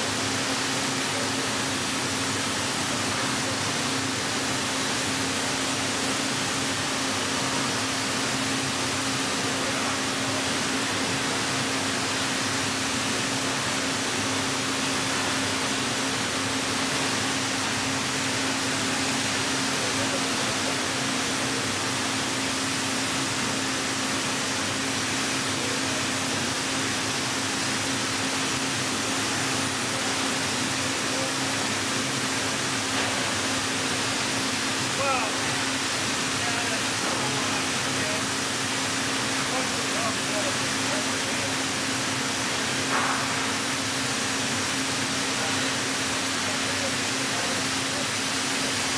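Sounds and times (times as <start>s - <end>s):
plate bending machine hum: 0.0s - 48.9s.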